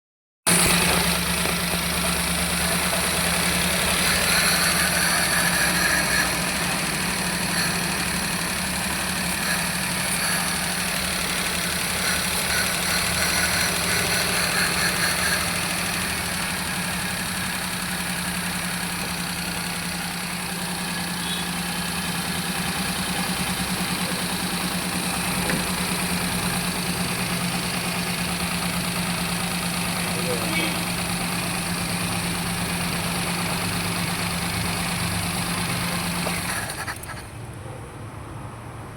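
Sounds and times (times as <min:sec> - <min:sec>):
car engine idling with misfire: 0:00.5 - 0:37.6.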